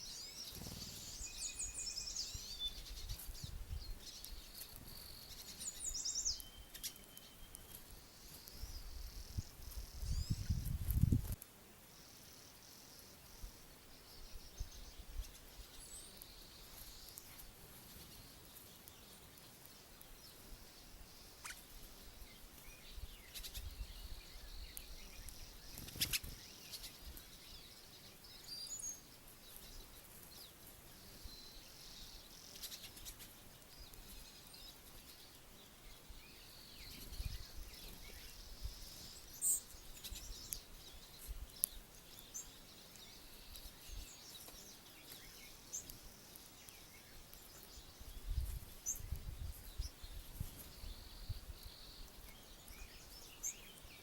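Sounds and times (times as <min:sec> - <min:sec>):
songbirds chirping: 0:00.0 - 0:54.0
steady high-pitched hiss: 0:00.0 - 0:54.0.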